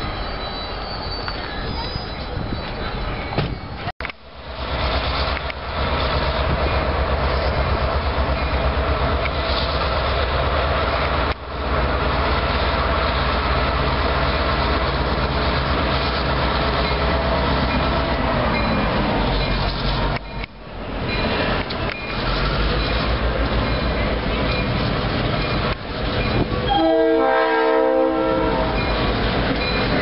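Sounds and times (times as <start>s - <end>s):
diesel locomotives droning past: 4.2s - 30.0s.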